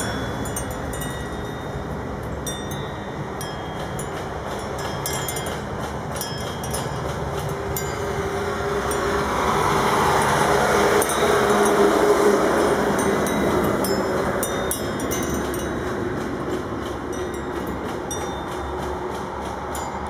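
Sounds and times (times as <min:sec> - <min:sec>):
street traffic noise: 0:00.0 - 0:20.0
vehicle engine approaching: 0:00.0 - 0:20.0.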